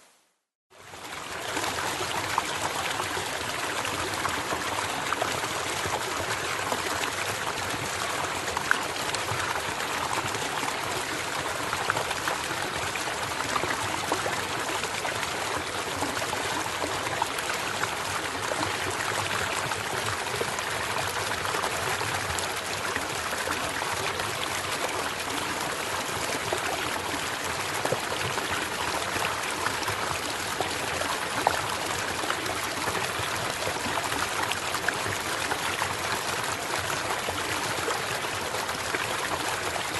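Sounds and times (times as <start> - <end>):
stream trickling: 0.7 - 39.9.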